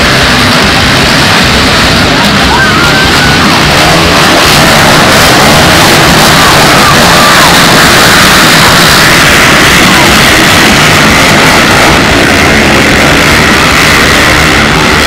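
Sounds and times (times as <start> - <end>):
many quad engines accelerating: 0.0 - 15.0.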